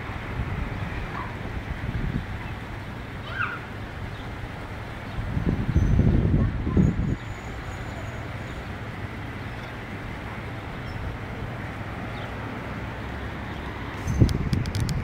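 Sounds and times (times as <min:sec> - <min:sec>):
outdoor background hiss: 0:00.0 - 0:15.0
wind buffeting microphone: 0:00.0 - 0:15.0.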